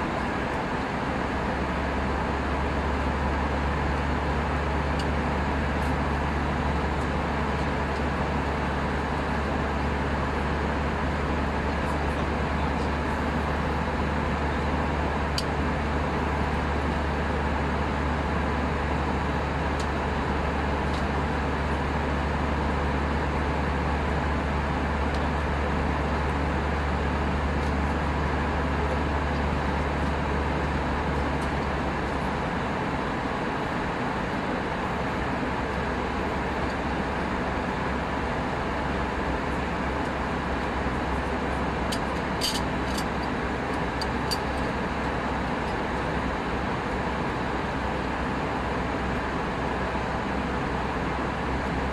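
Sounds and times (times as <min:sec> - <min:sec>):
airflow and engine noise: 0:00.0 - 0:51.9.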